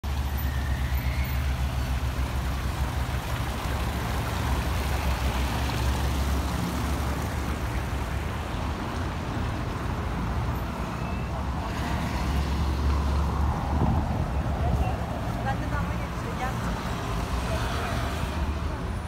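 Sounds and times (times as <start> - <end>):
steady low street rumble: 0.0 - 19.0.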